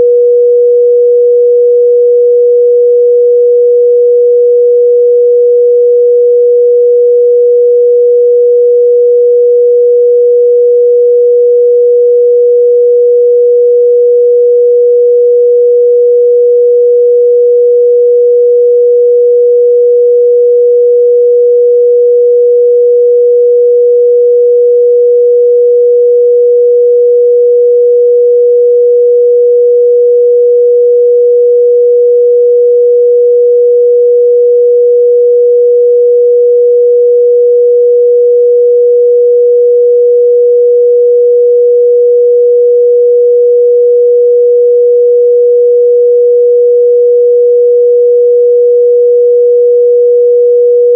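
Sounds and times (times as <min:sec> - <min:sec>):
pure sine test tone: 0:00.0 - 0:50.9.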